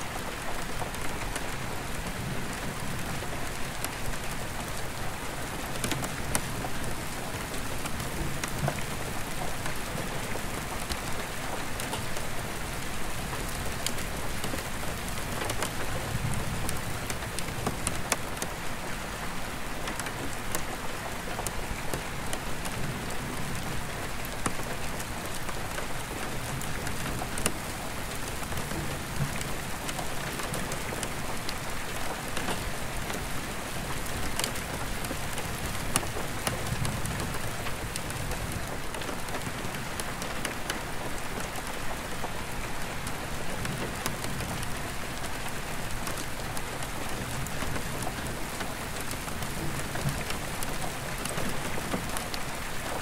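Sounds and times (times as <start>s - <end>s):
rain on glass skylight: 0.0s - 53.0s.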